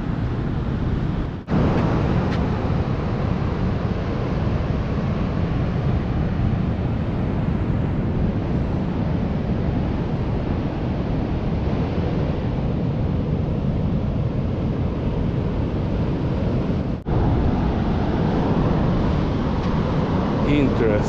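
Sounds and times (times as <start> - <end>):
wind rumbling on microphone: 0.0 - 21.0
ocean surf breaking: 0.1 - 21.0.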